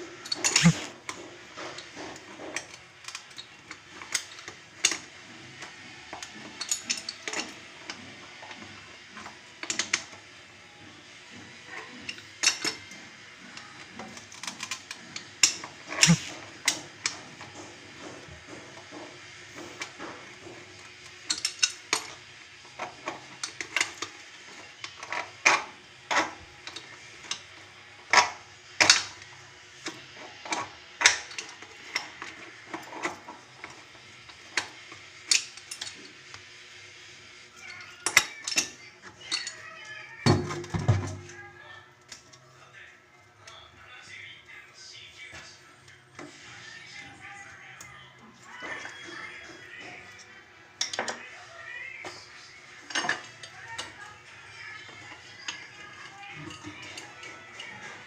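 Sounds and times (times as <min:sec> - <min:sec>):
hard objects clinking and knocking: 0:00.1 - 0:10.4, 0:11.3 - 0:36.4, 0:37.6 - 0:41.7, 0:46.2 - 0:58.0.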